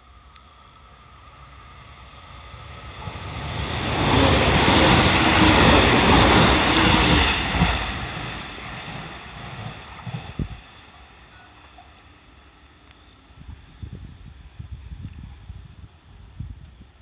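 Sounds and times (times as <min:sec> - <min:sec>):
train wheels rushing on rail: 0:00.0 - 0:16.9.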